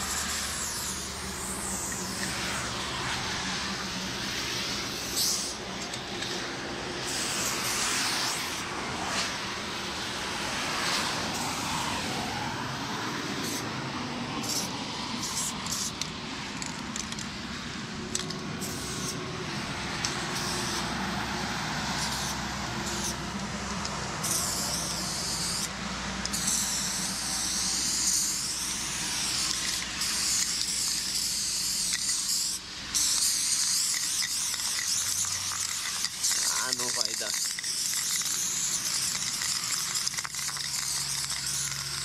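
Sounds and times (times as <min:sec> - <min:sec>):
spray paint can hissing: 0:00.0 - 0:42.0.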